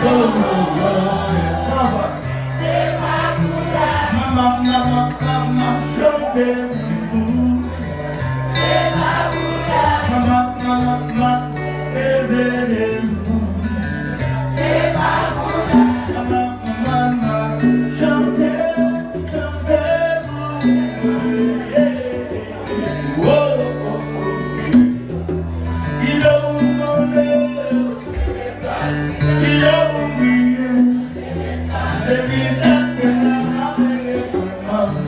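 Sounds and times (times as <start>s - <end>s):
man singing into a microphone: 0.0s - 2.6s, 3.4s - 8.7s, 9.3s - 14.3s, 15.4s - 35.0s
acoustic guitar: 0.0s - 35.0s.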